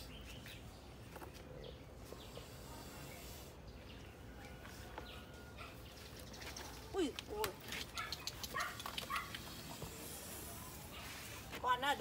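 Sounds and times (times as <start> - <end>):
steady low outdoor noise: 0.0 - 12.0.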